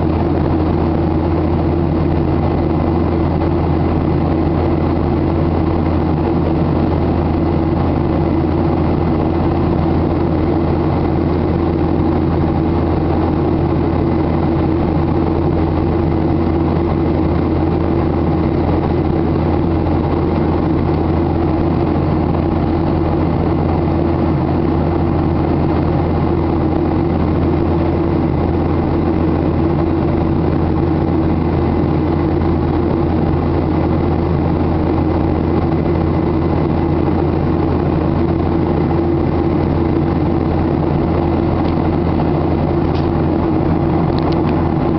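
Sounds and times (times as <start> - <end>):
jet engine drone in cabin: 0.0 - 44.9
low hum: 0.0 - 44.9.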